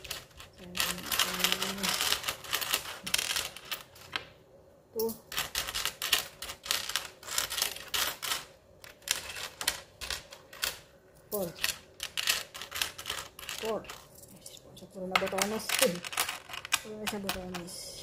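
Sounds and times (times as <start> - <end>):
metal coins clinking: 0.0 - 4.2, 5.0 - 17.8.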